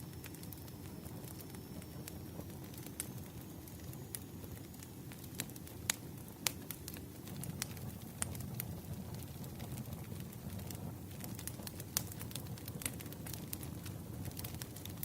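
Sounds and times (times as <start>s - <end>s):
firewood crackling and popping: 0.0s - 15.0s
low rush of flames: 0.1s - 15.0s.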